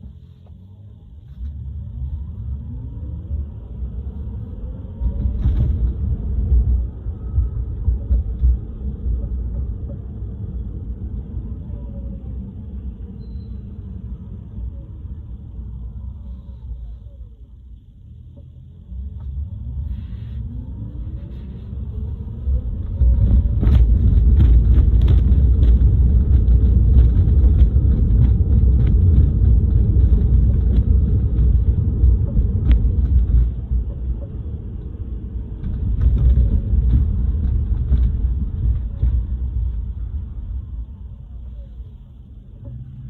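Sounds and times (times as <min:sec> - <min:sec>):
faint rising whine: 0:00.0 - 0:43.0
road and tyre rumble: 0:00.0 - 0:43.0.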